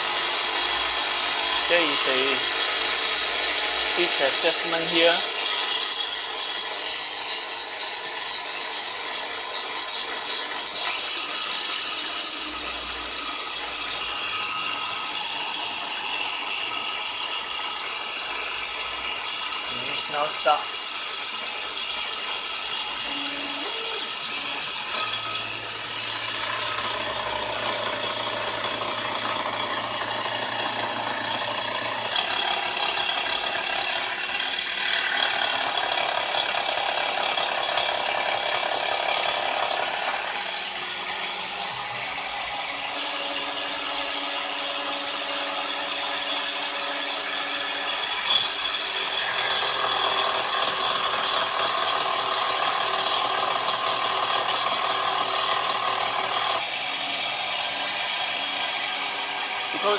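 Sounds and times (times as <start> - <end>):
saw blade cutting aluminium: 0.0 - 59.9.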